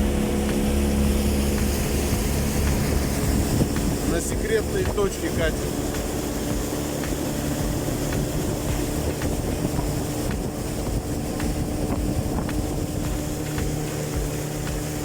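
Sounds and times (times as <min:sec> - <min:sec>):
motorboat engine running: 0:00.0 - 0:15.0
wind buffeting microphone: 0:00.0 - 0:15.0.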